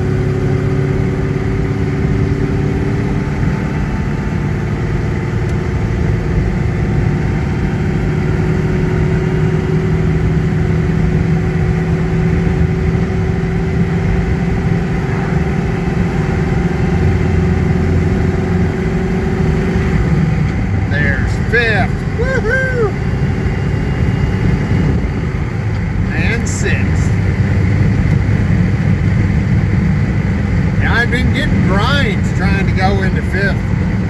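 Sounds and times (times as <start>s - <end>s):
car engine accelerating: 0.0s - 34.0s
road and wind noise: 0.0s - 34.0s.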